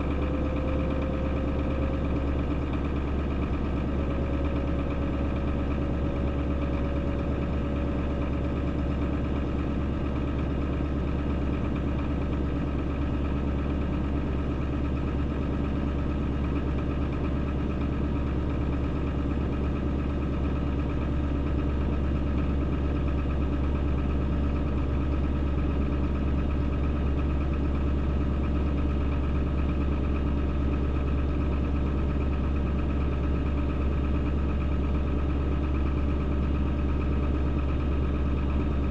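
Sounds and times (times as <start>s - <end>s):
diesel pickup engine idling: 0.0s - 38.9s.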